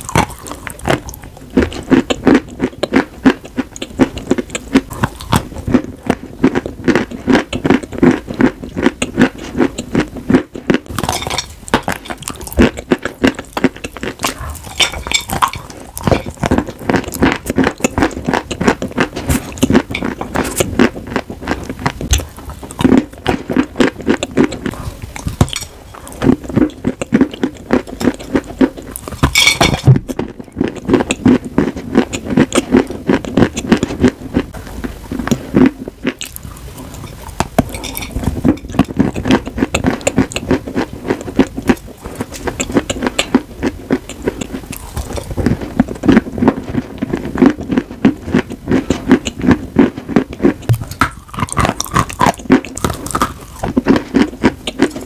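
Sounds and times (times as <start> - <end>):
chewing with rapid crunches: 0.0 - 55.0.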